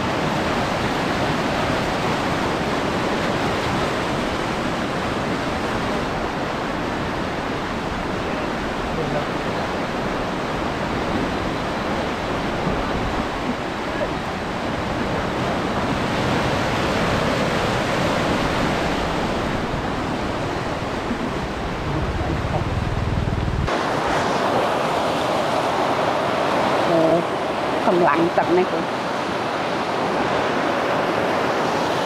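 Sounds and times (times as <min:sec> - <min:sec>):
floodwater rushing and churning: 0:00.0 - 0:32.0.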